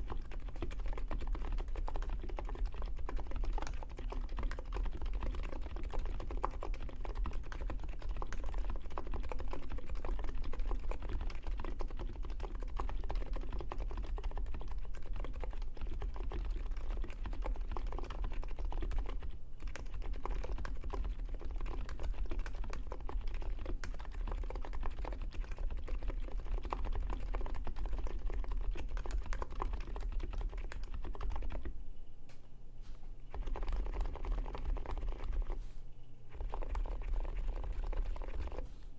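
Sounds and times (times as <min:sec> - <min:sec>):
keyboard typing: 0:00.0 - 0:31.8, 0:33.3 - 0:35.7, 0:36.3 - 0:38.8.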